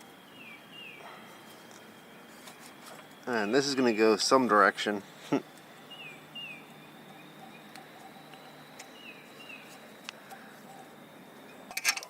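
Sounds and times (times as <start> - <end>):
faint bird chirps: 0.0 - 11.7.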